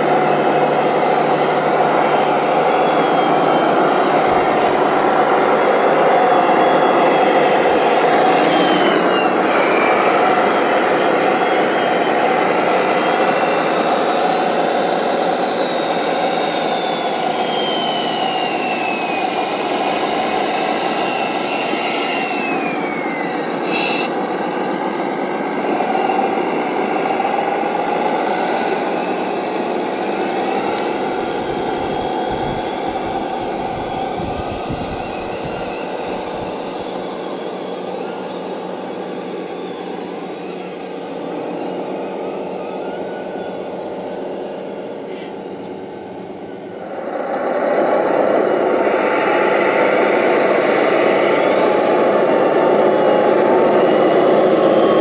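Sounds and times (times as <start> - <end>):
falling whine: 0.0 - 55.0
model vehicles whining and humming: 0.0 - 55.0.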